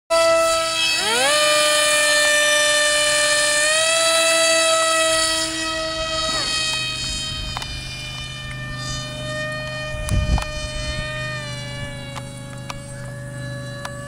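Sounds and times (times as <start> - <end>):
model plane motors whining: 0.1 - 14.0.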